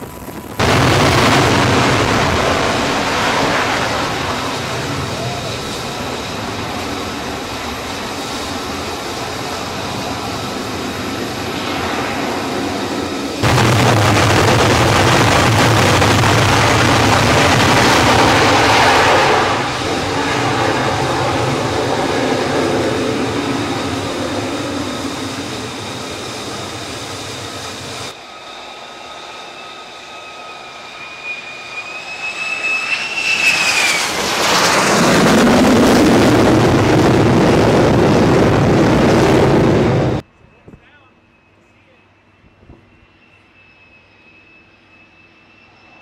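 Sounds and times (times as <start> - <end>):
jet engine roar: 0.0 - 46.0
turbine whine: 0.0 - 46.0.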